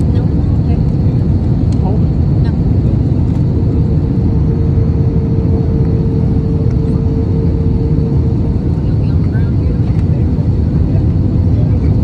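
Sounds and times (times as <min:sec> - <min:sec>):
constant hum: 0:00.0 - 0:12.0
engine and airflow rumble: 0:00.0 - 0:12.0.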